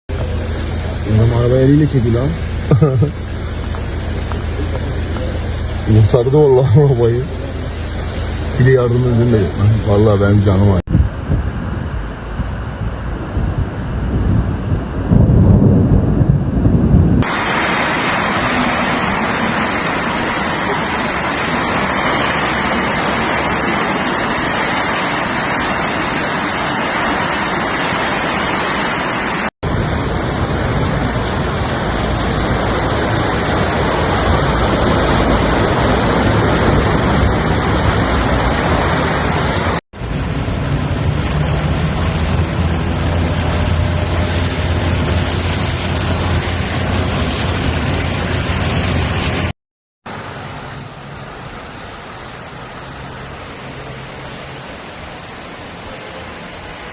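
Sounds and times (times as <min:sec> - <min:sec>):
heavy rain hissing: 0:00.1 - 0:10.9, 0:17.2 - 0:49.5, 0:50.1 - 0:56.9
deep rumble: 0:00.1 - 0:26.6, 0:29.6 - 0:49.5.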